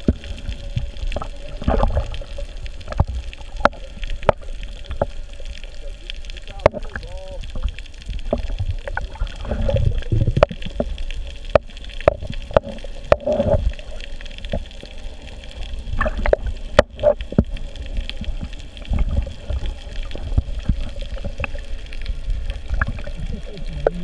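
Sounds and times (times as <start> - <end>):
muffled underwater noise: 0.0 - 24.0
regulator bubbles gurgling: 0.0 - 24.0.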